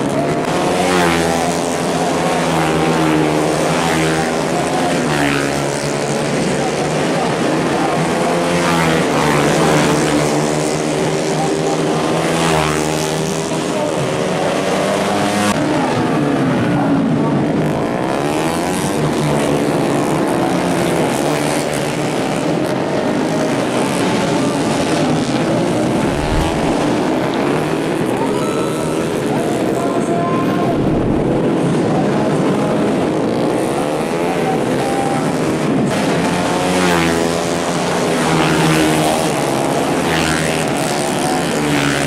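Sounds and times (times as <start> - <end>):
motorcycles revving past: 0.0 - 15.8, 17.6 - 29.7, 33.3 - 42.0.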